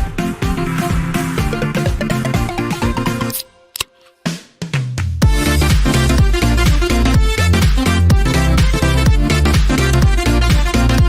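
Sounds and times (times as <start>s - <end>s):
electronic music with steady beat: 0.0s - 4.5s, 5.2s - 11.0s.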